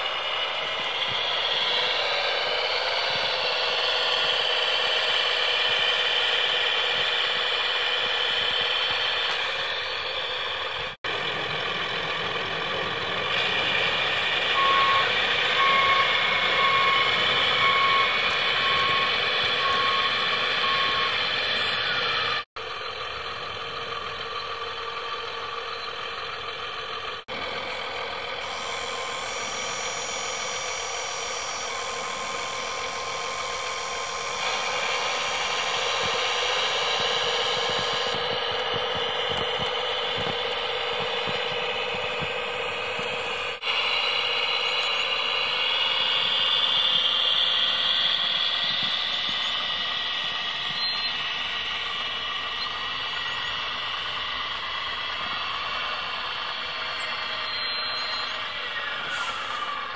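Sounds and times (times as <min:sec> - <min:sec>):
thin mechanical engine drone: 0:00.0 - 0:59.9.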